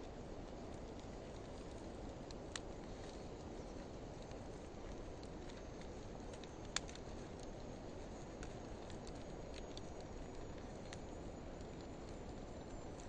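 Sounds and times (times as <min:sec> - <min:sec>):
fire crackling and popping: 0:00.0 - 0:13.0
fire flames rumbling: 0:00.0 - 0:13.0.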